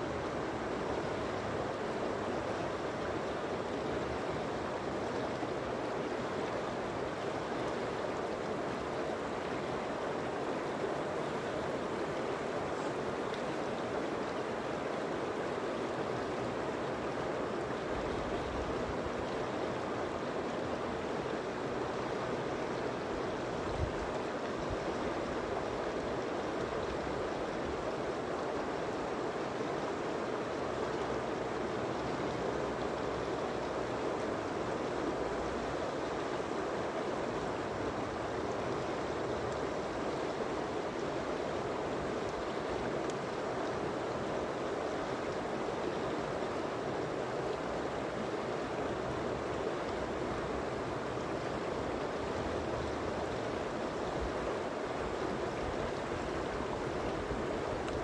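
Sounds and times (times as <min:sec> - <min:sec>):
river flowing over rocks: 0:00.0 - 0:58.0.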